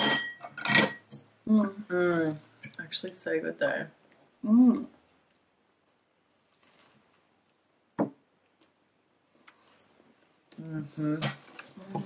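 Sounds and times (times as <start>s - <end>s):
quiet eating: 1.0s - 12.0s.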